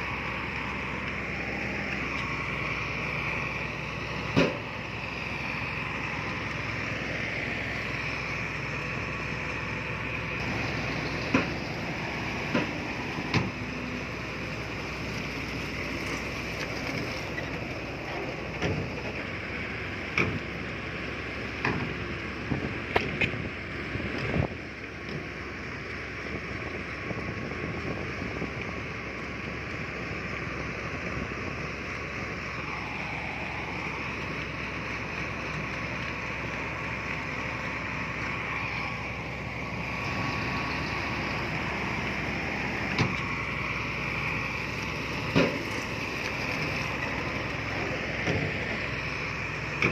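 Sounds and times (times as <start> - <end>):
heavy machinery diesel engine: 0.0 - 49.9.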